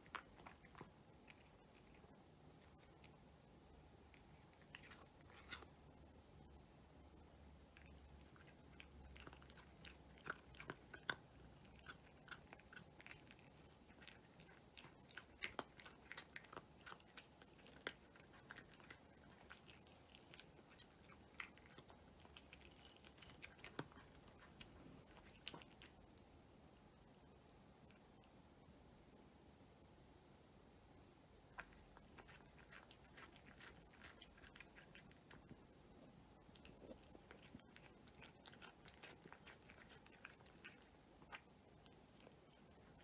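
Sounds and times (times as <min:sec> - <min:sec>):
cat chewing dry kibble: 0:00.0 - 0:06.0, 0:07.6 - 0:26.9, 0:31.5 - 0:43.0.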